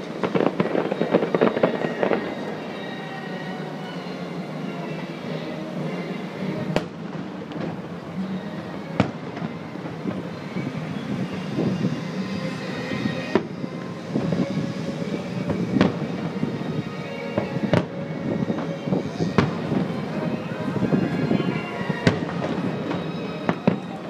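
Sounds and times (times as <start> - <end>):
distant fireworks booming: 0.0 - 4.9, 5.8 - 24.0.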